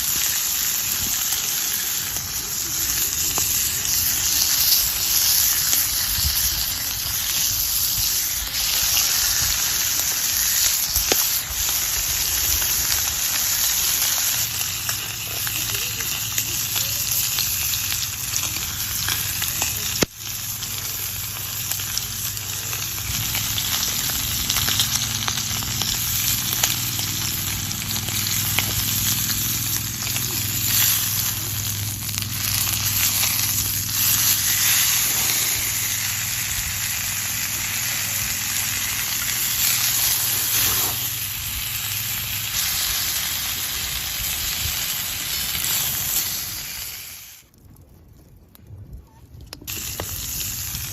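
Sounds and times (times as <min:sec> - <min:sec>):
food sizzling on grill: 0:00.0 - 0:47.5, 0:49.7 - 0:50.9
fire crackling: 0:00.0 - 0:50.9.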